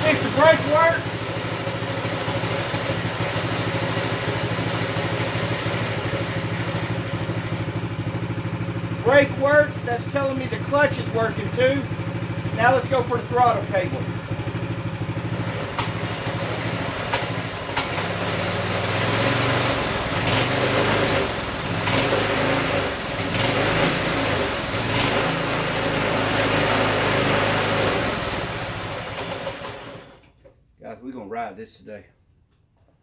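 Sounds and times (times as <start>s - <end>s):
minibike engine revving: 0.0s - 30.2s.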